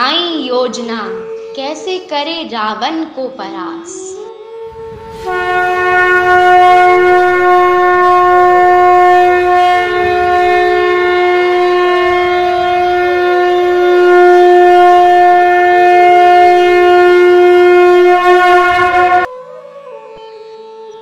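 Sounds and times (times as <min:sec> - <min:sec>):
conch shell blown: 0:00.0 - 0:02.0, 0:04.1 - 0:21.0.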